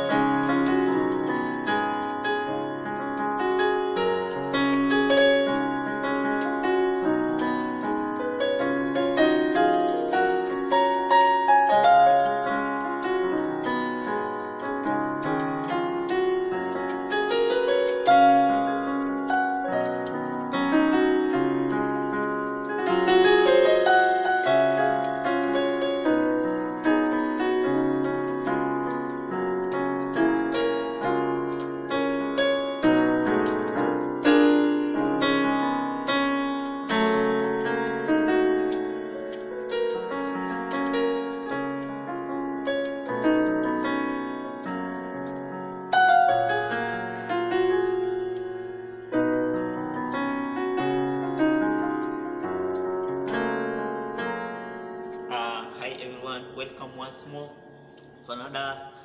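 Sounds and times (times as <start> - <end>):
keyboard piano chords and runs: 0.0 - 59.0.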